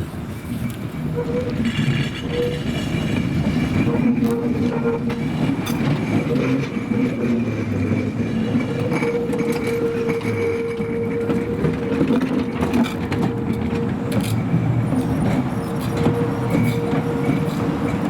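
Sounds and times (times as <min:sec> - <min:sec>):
tram running on rails: 0:00.0 - 0:18.0.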